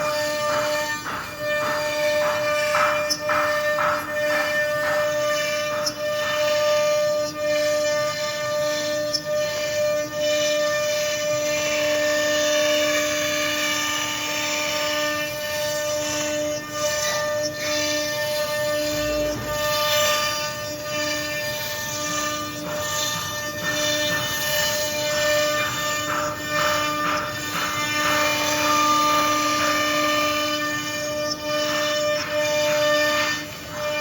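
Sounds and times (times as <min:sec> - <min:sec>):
router spindle whine: 0:00.0 - 0:34.0.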